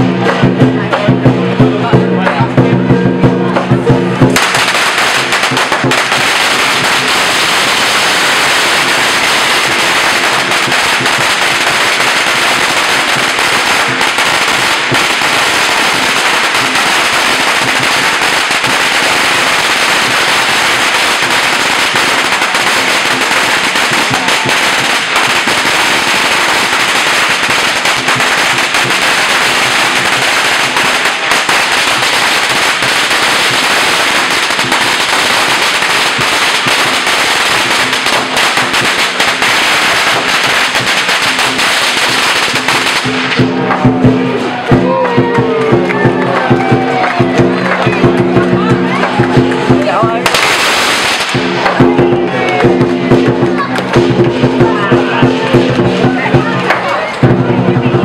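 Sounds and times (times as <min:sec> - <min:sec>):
firecrackers going off: 0:00.0 - 0:58.0.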